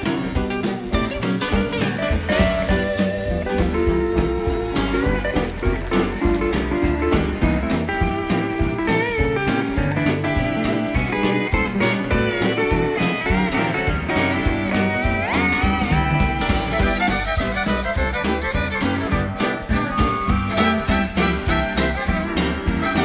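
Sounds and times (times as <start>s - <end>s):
drums keeping steady beat: 0.0s - 23.0s
electric guitar: 0.0s - 23.0s
steel guitar: 0.0s - 23.0s
western swing band playing: 0.0s - 23.0s.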